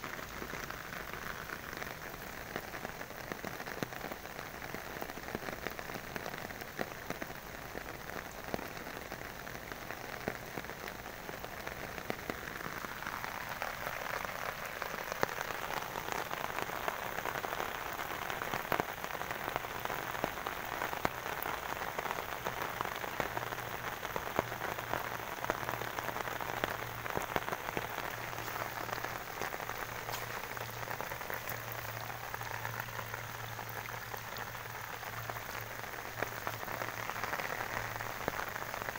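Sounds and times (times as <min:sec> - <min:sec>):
rain pattering on water: 0:00.0 - 0:38.9.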